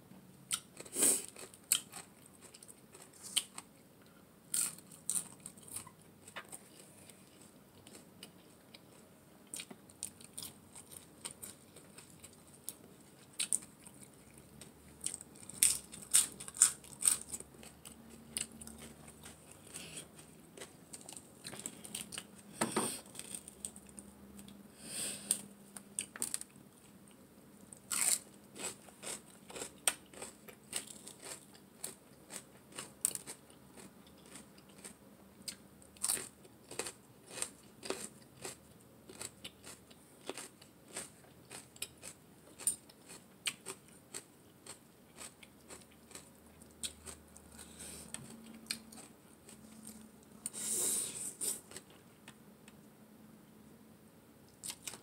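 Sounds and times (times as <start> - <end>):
crunchy chewing: 0.5 - 3.7, 4.5 - 22.3, 27.8 - 50.8.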